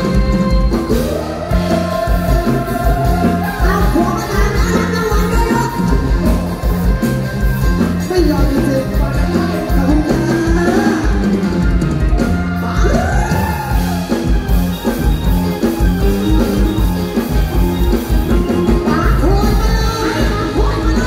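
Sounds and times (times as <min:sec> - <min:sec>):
drum kit and bass: 0:00.0 - 0:21.0.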